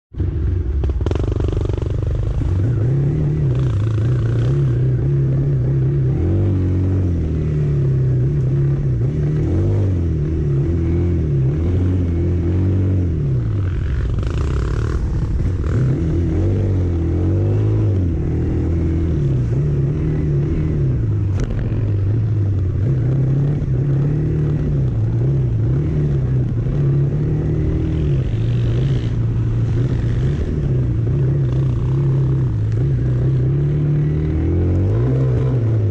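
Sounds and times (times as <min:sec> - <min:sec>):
road noise: 0:00.1 - 0:35.9
vehicle engine droning: 0:00.1 - 0:35.9.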